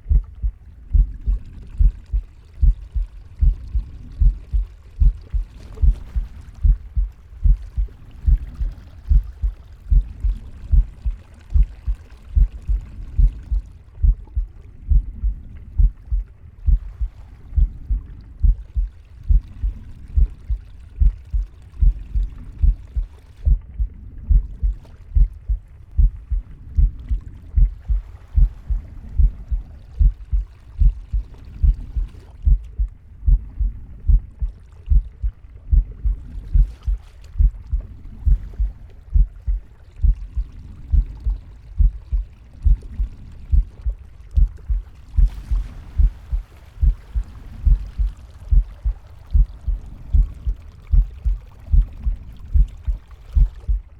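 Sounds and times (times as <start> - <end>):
heartbeat thumps: 0.0 - 53.9.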